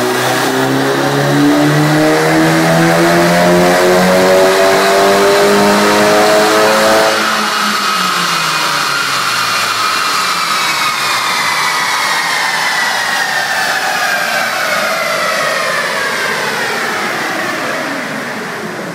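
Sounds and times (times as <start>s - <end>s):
car engine at full throttle: 0.0s - 18.9s
whine of rollers spinning down: 0.0s - 18.9s.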